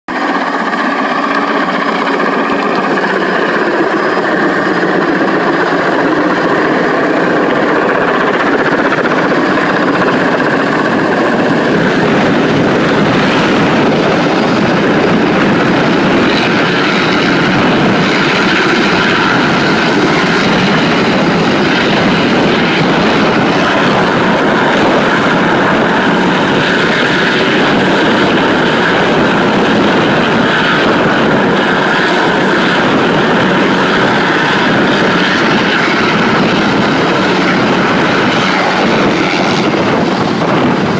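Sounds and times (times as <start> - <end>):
helicopter rotor and engine: 0.1 - 40.9
high whine: 0.1 - 40.9.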